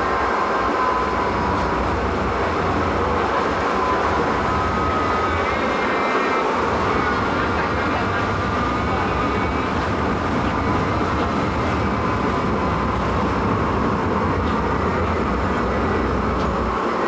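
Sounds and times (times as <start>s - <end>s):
faint steady whine: 0.0s - 17.0s
train rumbling: 0.0s - 17.0s.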